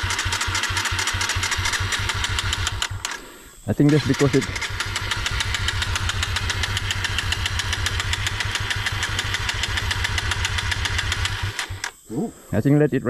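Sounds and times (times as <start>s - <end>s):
motorcycle engine rapid beat: 0.0s - 3.1s, 3.8s - 11.8s.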